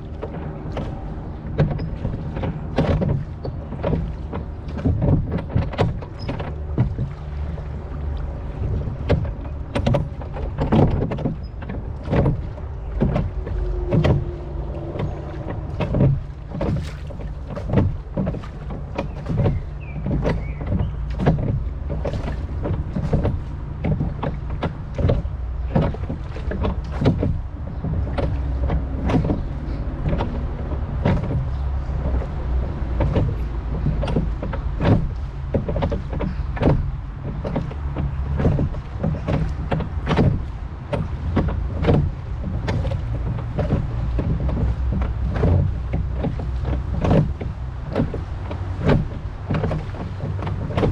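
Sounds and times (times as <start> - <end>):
oars dipping and splashing: 0.0 - 50.9
wind rumble on microphone: 0.0 - 50.9.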